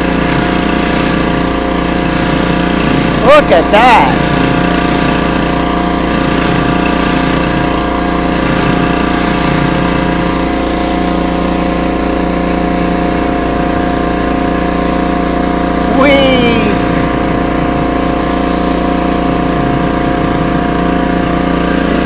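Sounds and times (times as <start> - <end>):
pressure washer spraying concrete: 0.0 - 22.0.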